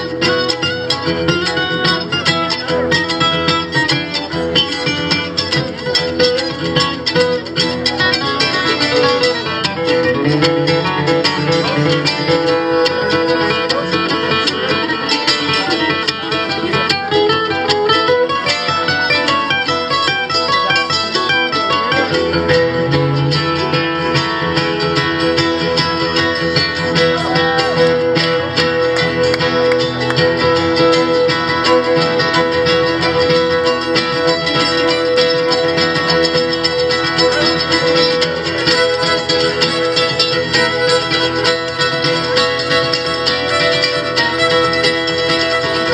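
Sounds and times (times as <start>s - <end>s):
acoustic string band playing: 0.0s - 45.9s
fast picked acoustic guitar: 0.0s - 45.9s.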